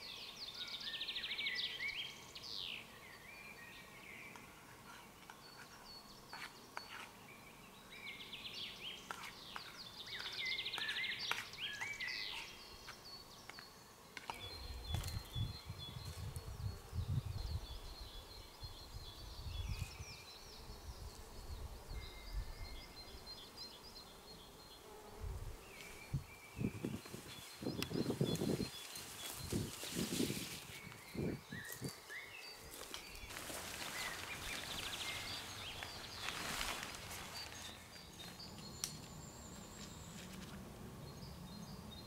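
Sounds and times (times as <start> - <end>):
small birds singing: 0.0 - 42.0.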